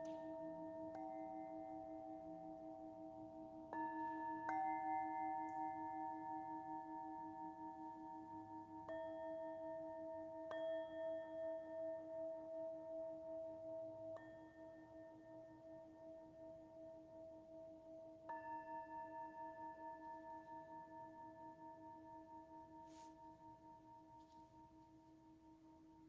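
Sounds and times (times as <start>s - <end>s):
low wavering bowl hum: 0.0s - 26.0s.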